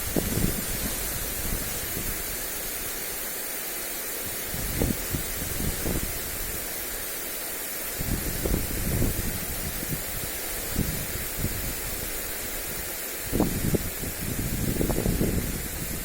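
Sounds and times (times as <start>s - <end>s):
wind buffeting microphone: 0.0s - 2.4s, 4.3s - 6.7s, 8.0s - 16.0s
lawn sprinkler spray hissing: 0.0s - 16.0s.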